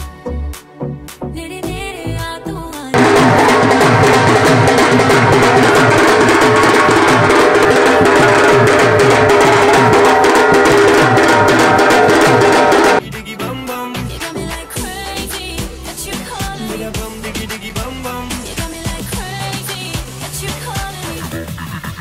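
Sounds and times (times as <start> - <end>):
dance music with fast drum beat: 3.0 - 13.0, 14.0 - 22.0.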